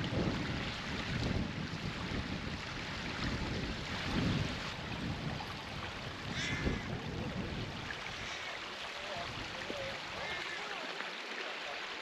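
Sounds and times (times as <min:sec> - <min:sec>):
wind buffeting microphone: 0:00.0 - 0:10.4
stream rushing: 0:00.0 - 0:12.0.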